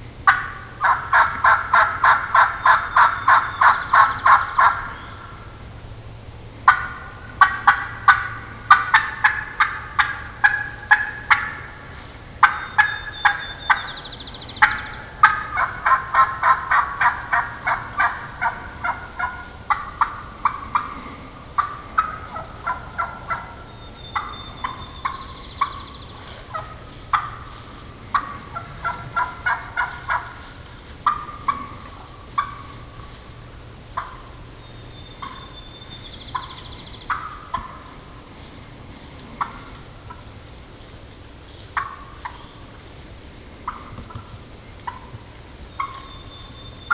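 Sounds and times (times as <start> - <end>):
wild turkey clucks and yelps: 0.2 - 5.6, 6.5 - 46.9.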